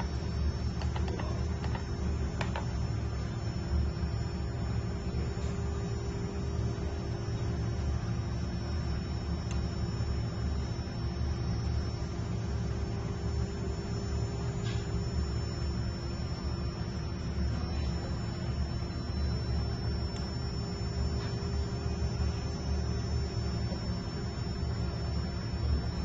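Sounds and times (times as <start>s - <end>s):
low electrical hum: 0.0s - 26.0s
thin steady tone: 0.0s - 26.0s.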